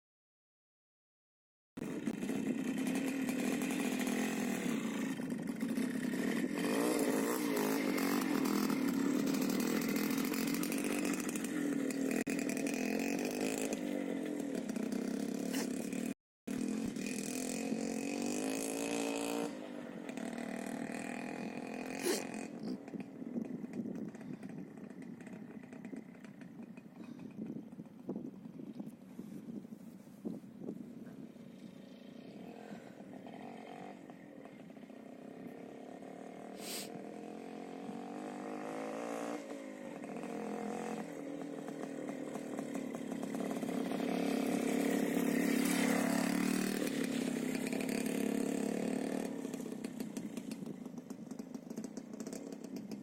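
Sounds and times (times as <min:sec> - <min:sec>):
two-stroke motorcycle engine revving: 0:01.8 - 0:28.7, 0:31.1 - 0:53.0.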